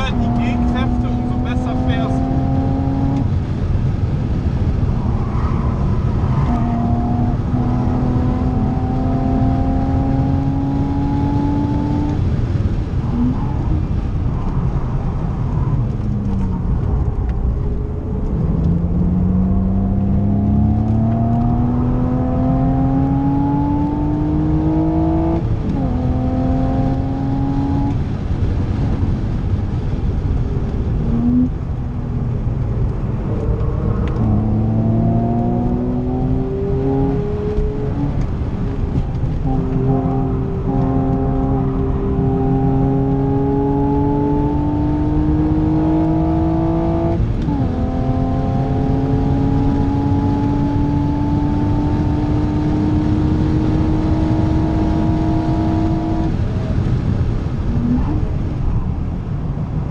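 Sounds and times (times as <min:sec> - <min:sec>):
car engine accelerating: 0:00.0 - 0:59.9
tyre and road noise: 0:00.0 - 0:59.9.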